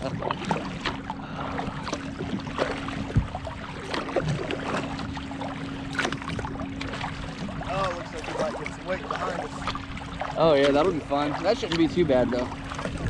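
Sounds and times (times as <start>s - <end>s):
kayak paddle splashing: 0.0s - 13.0s
steady low hum: 0.0s - 13.0s
water lapping against hull: 0.0s - 13.0s.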